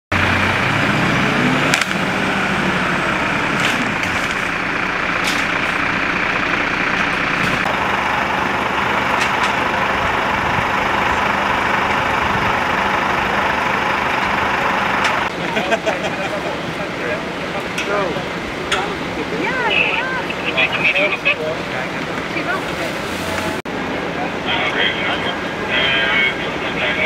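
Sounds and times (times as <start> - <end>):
diesel engine running: 0.1 - 27.0.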